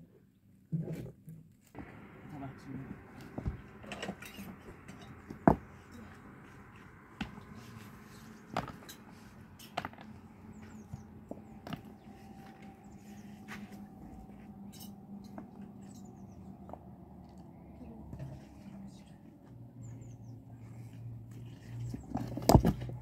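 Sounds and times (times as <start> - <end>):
faint steady hum: 1.8 - 23.0.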